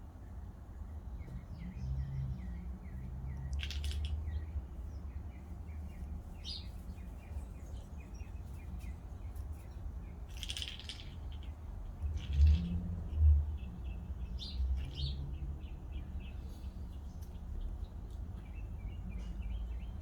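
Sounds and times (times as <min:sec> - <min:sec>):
bird chirping: 0:01.2 - 0:20.0.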